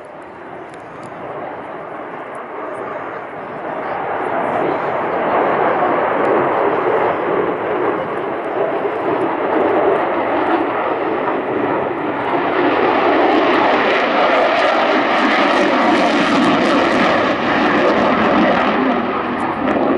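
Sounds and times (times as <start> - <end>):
jet fighter flying by: 0.0 - 19.9.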